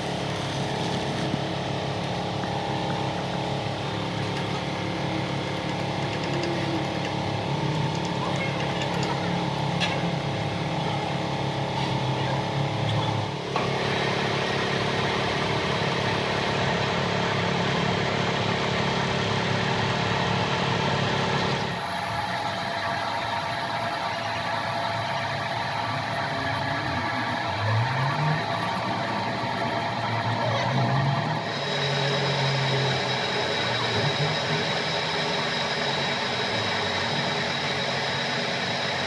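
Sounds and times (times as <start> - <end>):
motor running: 0.0 - 16.6, 21.6 - 39.0.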